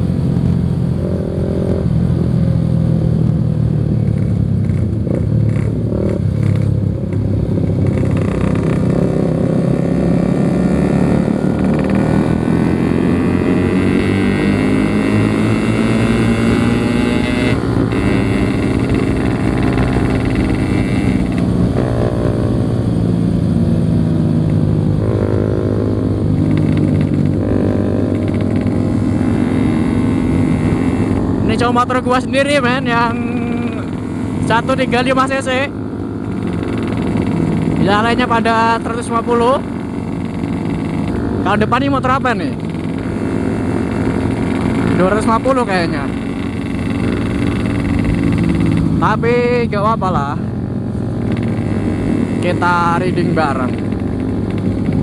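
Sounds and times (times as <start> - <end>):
motorcycle engine revving: 0.0 - 55.0
other motorcycle engines: 0.0 - 55.0.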